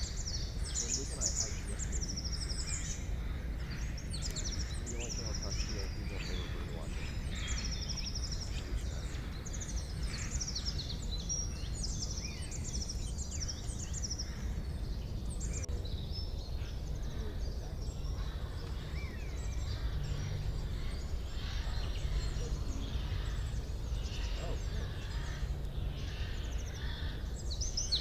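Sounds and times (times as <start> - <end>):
steady low rumble: 0.0 - 27.8
songbirds chirping and trilling: 0.0 - 28.0.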